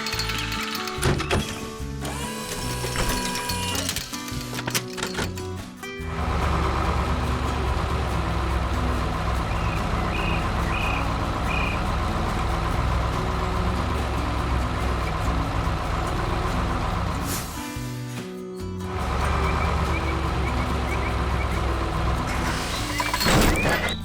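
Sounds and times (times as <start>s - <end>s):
truck engine rumbling: 0.0s - 24.0s.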